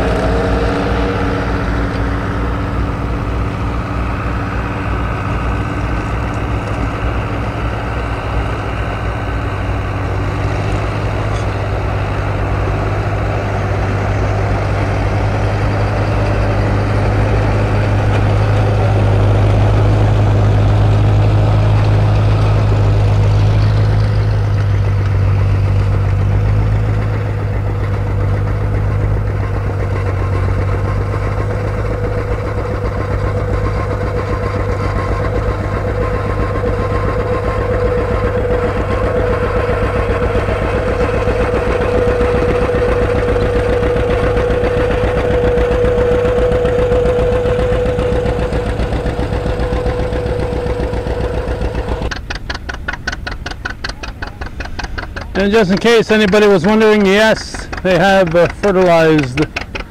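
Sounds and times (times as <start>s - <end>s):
tractor engines running under load: 0.0s - 59.9s.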